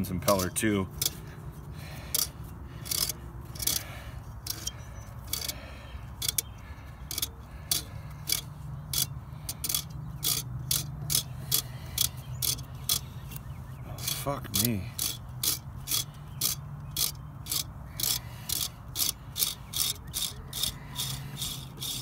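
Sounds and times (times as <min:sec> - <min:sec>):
pump parts clicking and scraping: 0:00.0 - 0:22.0
steady low hum: 0:00.0 - 0:22.0.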